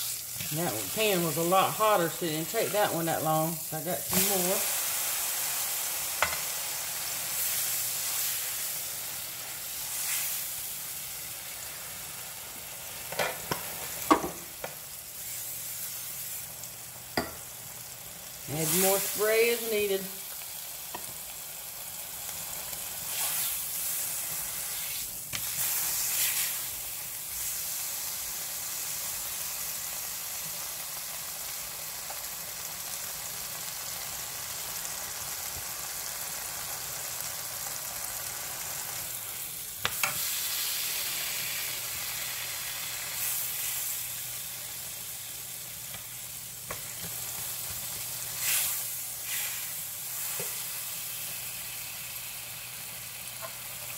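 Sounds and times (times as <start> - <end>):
ham sizzling in a frying pan: 0.0 - 53.9.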